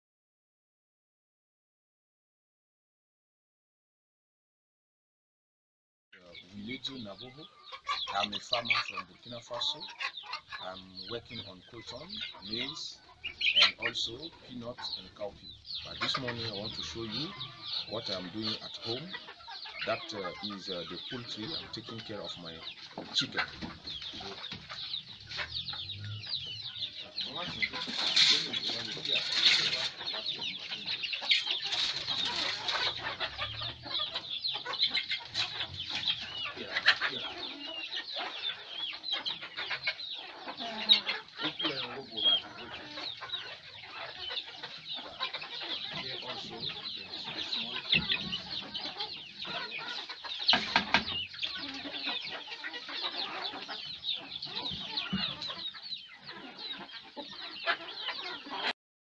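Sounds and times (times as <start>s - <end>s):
chickens clucking and cheeping: 6.2s - 58.8s.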